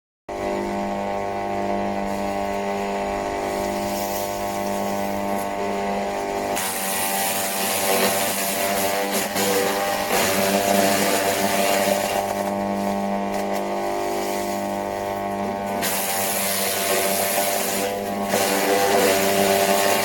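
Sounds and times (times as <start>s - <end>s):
wood chipper motor hum: 0.3s - 20.0s.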